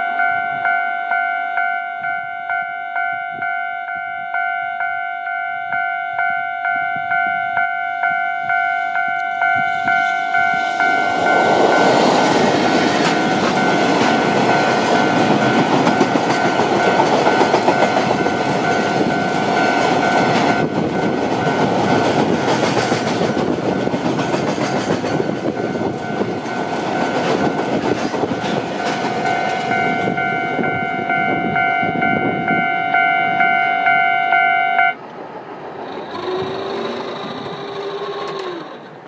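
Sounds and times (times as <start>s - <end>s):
level crossing bell ringing: 0.0s - 22.0s, 25.5s - 35.0s
freight train wheels rumbling: 5.6s - 39.0s.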